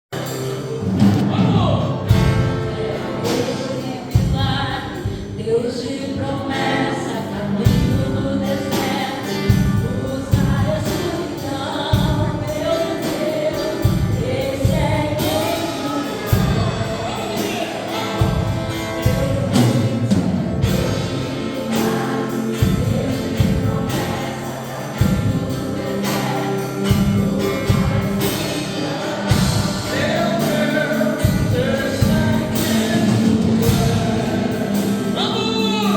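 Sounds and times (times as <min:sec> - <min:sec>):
bass and drum beat: 0:00.2 - 0:05.3, 0:07.6 - 0:35.9
group of voices singing: 0:00.2 - 0:35.9.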